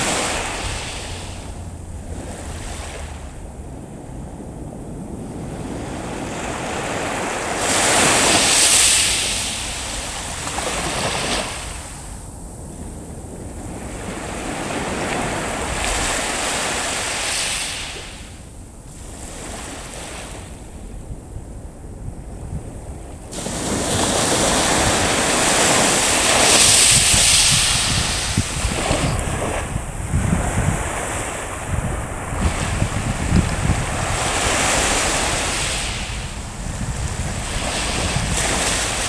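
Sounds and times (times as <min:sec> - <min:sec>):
small waves breaking on sand: 0:00.0 - 0:12.3, 0:13.5 - 0:18.4, 0:23.2 - 0:39.0
wind buffeting microphone: 0:00.0 - 0:39.0.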